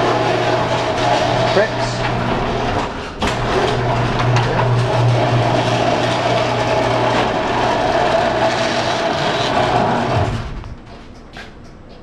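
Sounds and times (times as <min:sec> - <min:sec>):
garage door opener running: 0:00.0 - 0:12.0.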